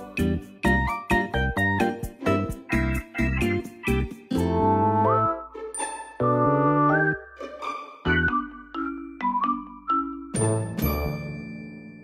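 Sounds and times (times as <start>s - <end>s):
plucked instrumental tune: 0.0s - 11.4s.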